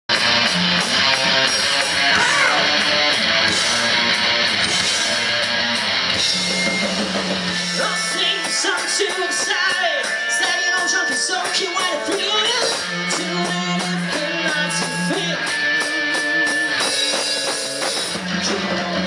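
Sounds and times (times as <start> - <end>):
live rock band playing: 0.1 - 19.0.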